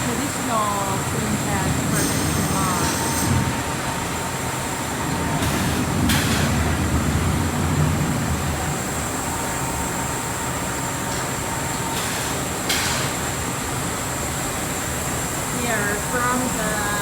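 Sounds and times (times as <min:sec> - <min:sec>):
machinery rumble: 0:00.0 - 0:17.0.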